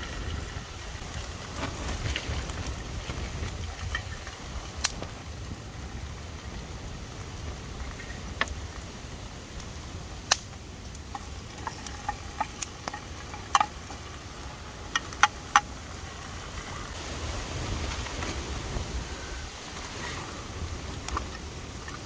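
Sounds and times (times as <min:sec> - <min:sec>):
strong wind on microphone: 0:00.0 - 0:13.6, 0:14.4 - 0:22.0.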